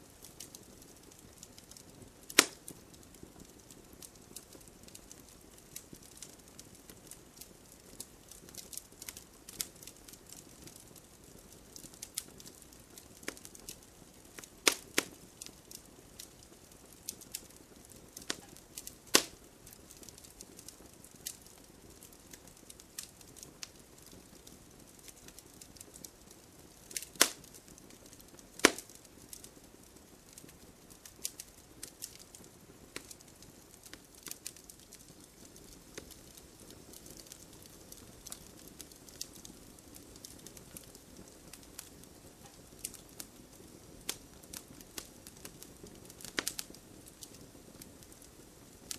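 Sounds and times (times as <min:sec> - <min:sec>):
fire hissing: 0:00.0 - 0:10.7, 0:11.3 - 0:48.9
fire crackling and popping: 0:00.0 - 0:48.9.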